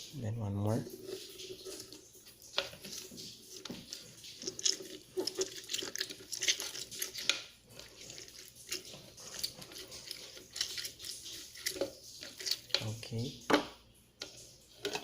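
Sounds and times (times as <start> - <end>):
juice dripping: 0.0 - 15.0
wet crackling: 0.0 - 15.0.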